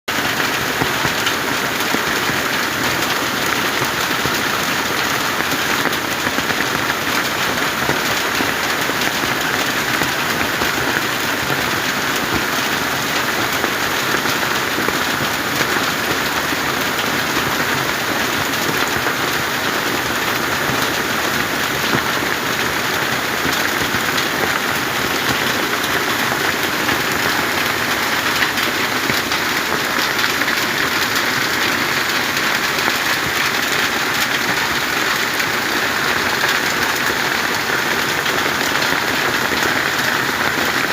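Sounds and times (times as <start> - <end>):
rush of falling water: 0.1 - 40.9.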